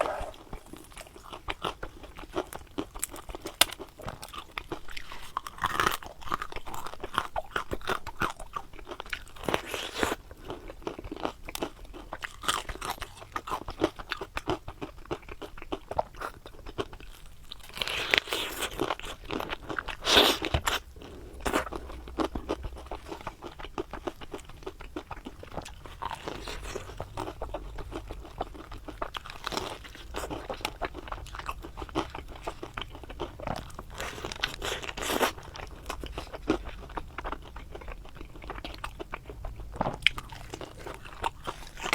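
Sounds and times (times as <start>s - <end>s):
crunching and chewing fried food: 0.0s - 41.9s.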